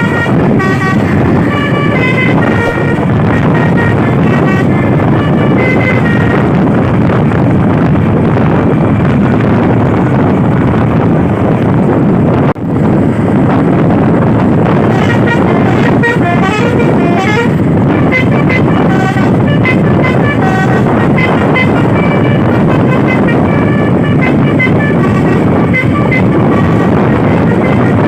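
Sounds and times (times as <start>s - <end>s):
musical truck horn: 0.0s - 10.1s, 14.1s - 28.0s
wind and road noise: 0.0s - 28.0s.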